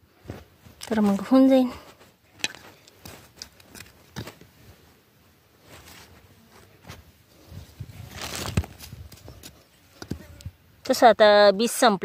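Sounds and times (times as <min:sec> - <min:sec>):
hand hoe scraping dry soil: 0:00.1 - 0:10.5.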